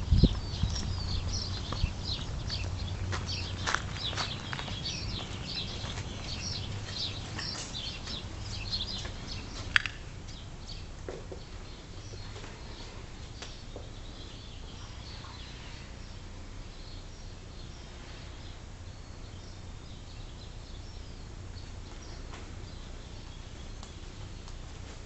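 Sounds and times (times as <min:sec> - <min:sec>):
birds chirping faintly: 0:00.0 - 0:25.0
steady low hum: 0:00.0 - 0:25.0.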